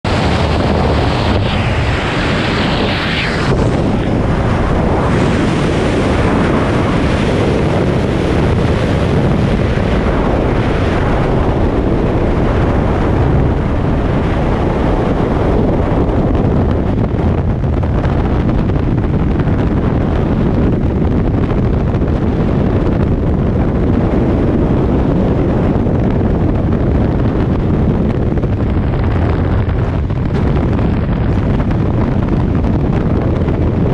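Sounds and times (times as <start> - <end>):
freefall wind buffeting microphone: 0.0 - 33.9.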